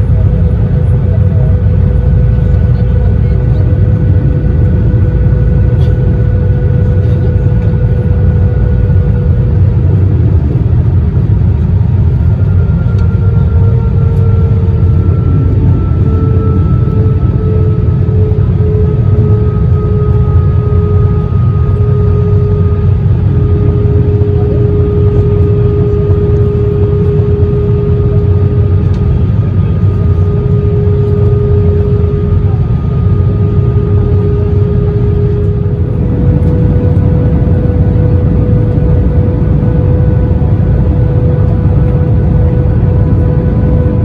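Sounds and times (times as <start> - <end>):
airplane cabin rumble: 0.0 - 44.0
jet engine tone: 0.0 - 44.0.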